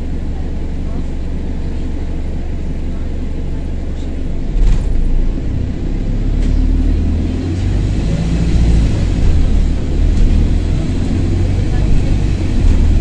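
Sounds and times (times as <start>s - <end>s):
bus engine rumble: 0.0s - 13.0s
faint high turbo whine: 0.0s - 13.0s.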